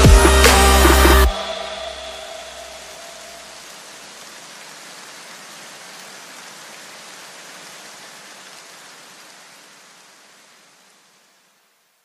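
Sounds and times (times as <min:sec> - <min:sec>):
steady rain-like hiss: 0:00.0 - 0:12.0.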